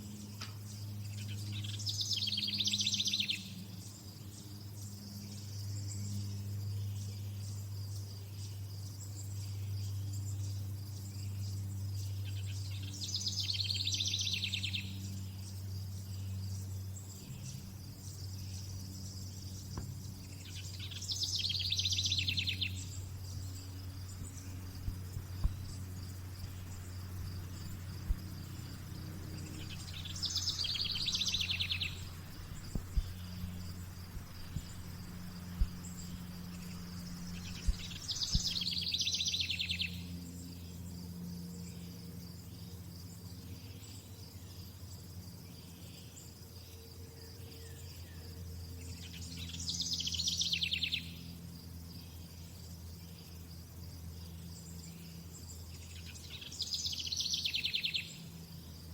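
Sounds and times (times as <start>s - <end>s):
crickets chirping: 0.0s - 58.9s
low steady hum: 0.0s - 58.9s.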